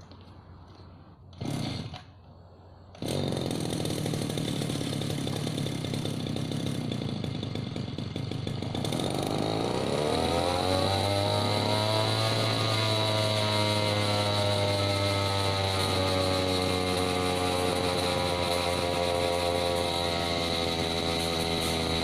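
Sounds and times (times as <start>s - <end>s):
brush cutter engine running: 1.3s - 2.2s, 2.9s - 22.0s.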